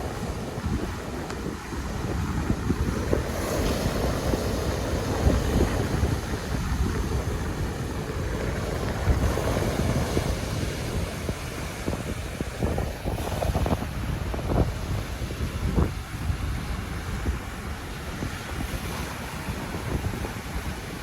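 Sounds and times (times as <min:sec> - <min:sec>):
waves washing onto beach: 0:00.0 - 0:21.0
wind buffeting microphone: 0:00.0 - 0:21.0.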